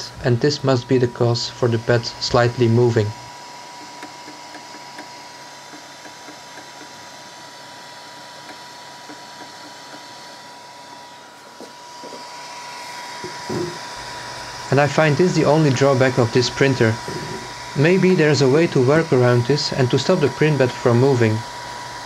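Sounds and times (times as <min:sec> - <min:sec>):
printer whirring: 0:00.0 - 0:22.0.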